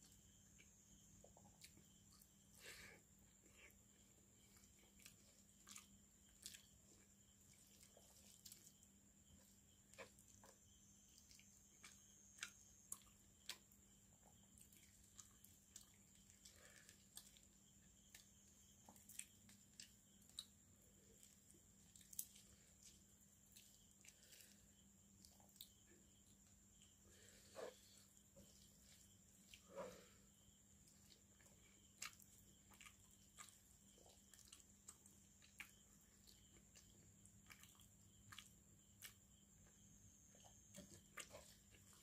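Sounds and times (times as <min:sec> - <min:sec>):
chewing: 0:00.0 - 0:42.0
wet squishes of eating by hand: 0:00.0 - 0:42.0.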